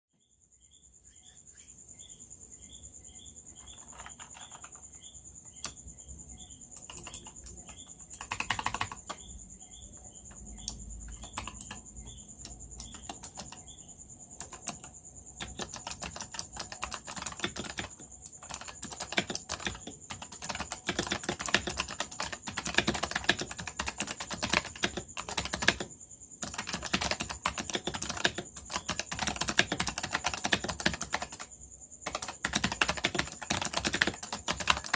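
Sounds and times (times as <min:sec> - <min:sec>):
typing on clicky keyboard: 0:03.6 - 0:04.9, 0:05.5 - 0:05.8, 0:06.7 - 0:13.8, 0:14.4 - 0:34.9.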